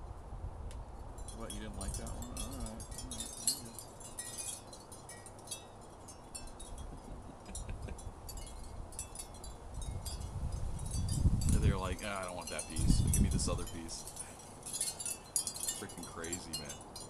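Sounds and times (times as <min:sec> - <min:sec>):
wind rumble on microphone: 0:00.0 - 0:04.5, 0:06.4 - 0:16.8
wind chimes tinkling: 0:01.1 - 0:17.0.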